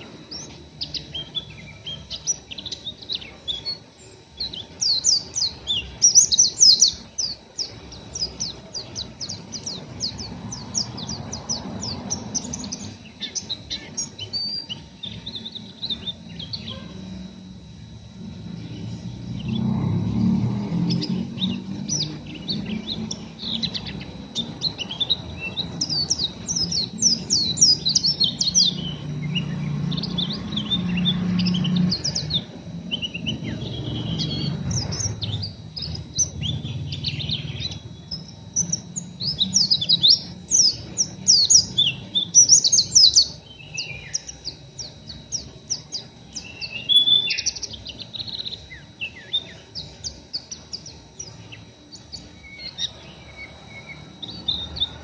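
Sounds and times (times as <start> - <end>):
bird twittering high chirps: 0.0 - 55.0
low hum: 0.0 - 55.0.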